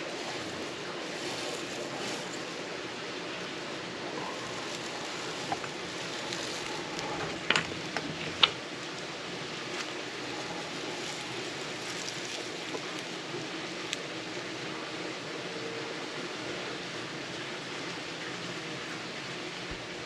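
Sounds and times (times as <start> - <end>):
rushing background hiss: 0.0 - 20.0.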